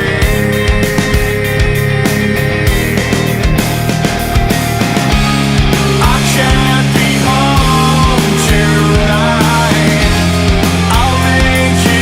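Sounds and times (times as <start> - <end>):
distorted electric guitars: 0.0 - 12.0
steady drum beat: 0.0 - 12.0.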